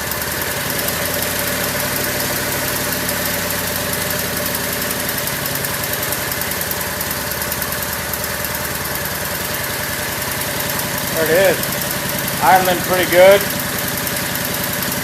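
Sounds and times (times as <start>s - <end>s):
small gasoline engine idling: 0.0s - 15.0s.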